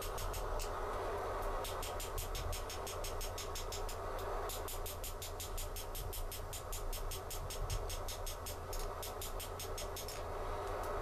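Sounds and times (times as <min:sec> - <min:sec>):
hammer strikes on hot steel: 0:00.0 - 0:00.8, 0:01.4 - 0:11.0
steady hiss: 0:00.0 - 0:11.0.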